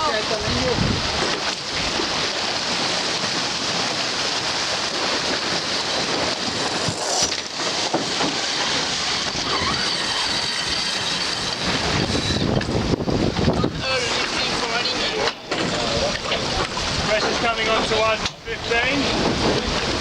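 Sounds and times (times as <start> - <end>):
wind buffeting microphone: 0.0 - 20.0
water hissing past hull: 0.1 - 18.0.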